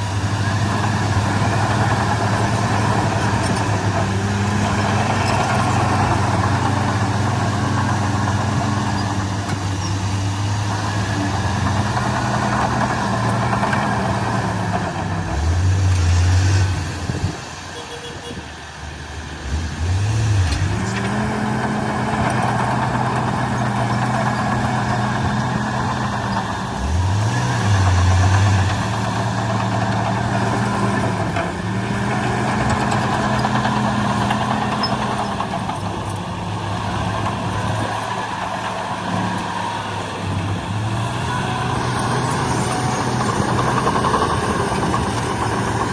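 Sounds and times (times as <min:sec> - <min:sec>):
heavy diesel engine working: 0:00.0 - 0:45.9.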